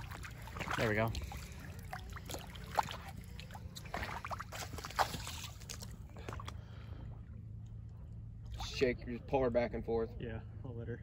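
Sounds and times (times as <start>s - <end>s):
water splashing and sloshing: 0.0s - 9.3s
steady low rumble: 0.0s - 11.0s.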